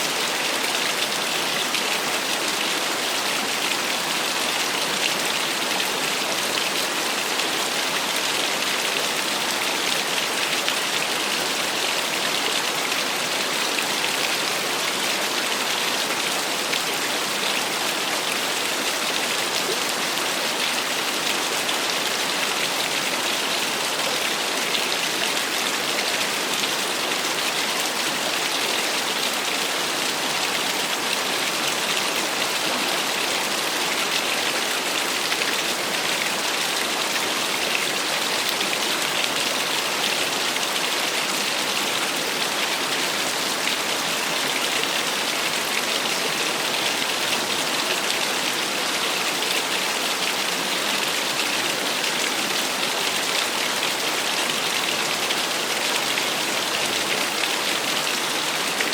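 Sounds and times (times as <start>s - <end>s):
small waterfall splashing: 0.0s - 58.9s.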